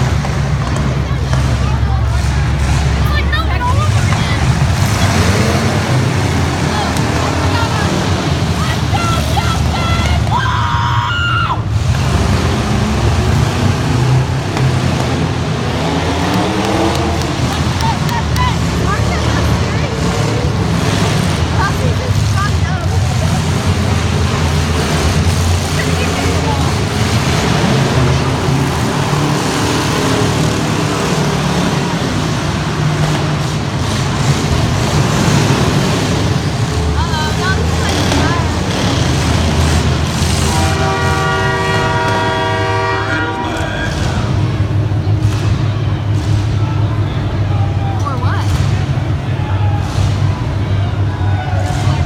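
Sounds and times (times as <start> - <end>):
truck engine rumbling: 0.0 - 52.0
voices shouting: 0.1 - 52.0.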